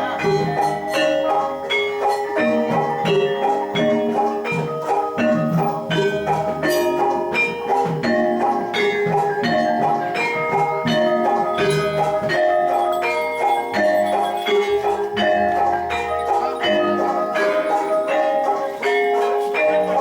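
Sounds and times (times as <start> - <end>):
drum strokes: 0.0 - 20.0
metallophones ringing: 0.0 - 20.0.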